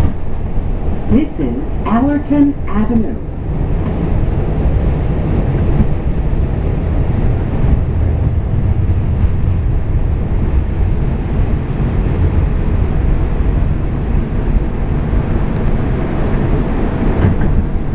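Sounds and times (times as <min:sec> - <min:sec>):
subway train rumbling: 0:00.0 - 0:17.9.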